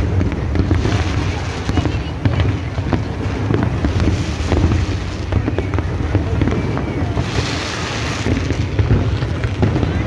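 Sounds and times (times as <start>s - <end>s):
fireworks cracking and popping: 0.0s - 10.0s.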